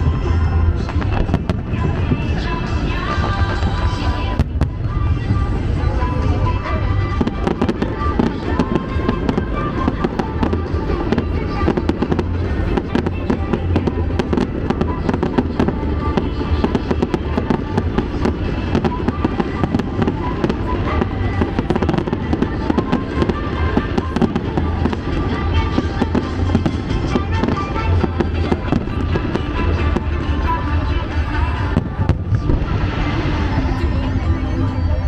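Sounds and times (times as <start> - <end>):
fireworks bangs and crackles: 0.0 - 34.8
loud music with deep bass: 0.0 - 35.0.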